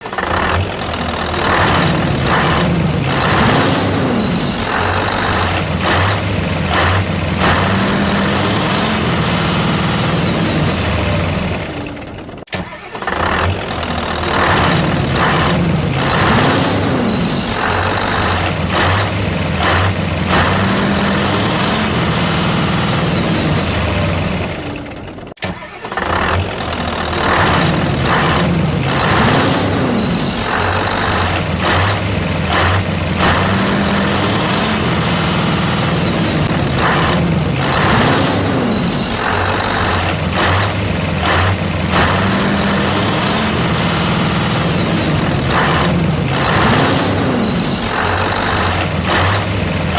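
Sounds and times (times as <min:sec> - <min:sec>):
truck engine starting and revving: 0:00.0 - 0:49.9.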